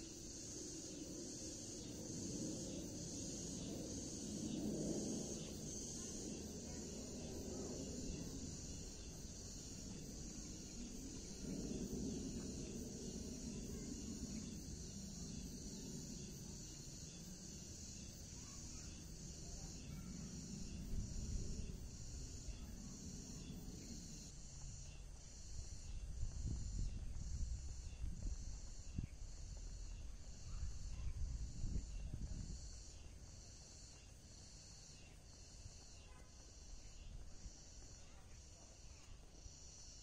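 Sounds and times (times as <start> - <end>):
insects buzzing: 0.0 - 40.0
low outdoor hum: 0.0 - 40.0.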